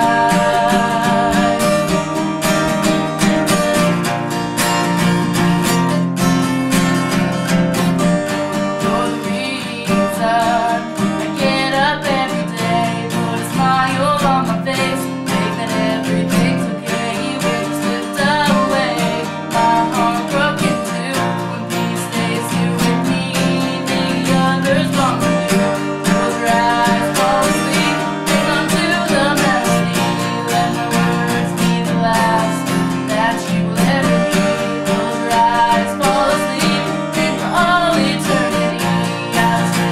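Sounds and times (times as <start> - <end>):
person singing: 0.0 - 4.1, 4.8 - 39.9
strummed acoustic guitar: 0.0 - 39.9.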